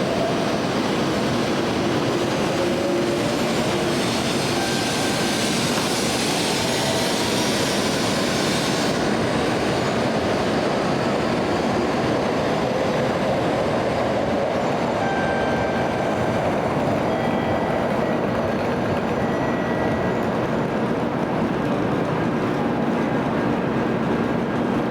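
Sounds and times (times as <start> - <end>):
train rolling noise: 0.0 - 24.9.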